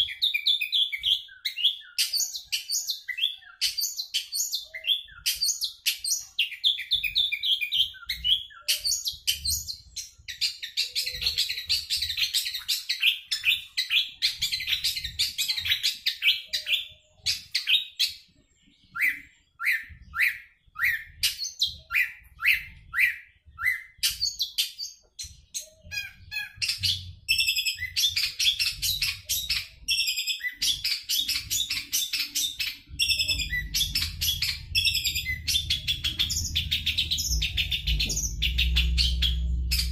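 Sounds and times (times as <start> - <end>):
shrike singing chattering song: 7.9 - 39.9.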